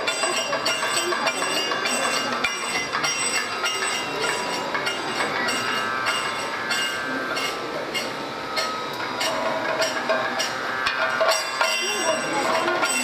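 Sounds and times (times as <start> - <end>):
gong ringing: 0.0 - 13.0
metal cymbals struck: 0.0 - 13.0.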